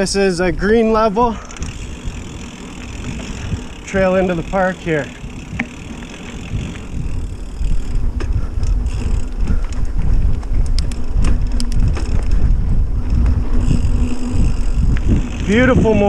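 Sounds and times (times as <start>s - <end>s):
wind buffeting microphone: 0.0s - 16.0s
bike clicks and rattles: 0.8s - 16.0s
tyres rumbling on dirt: 1.0s - 10.2s, 10.8s - 16.0s.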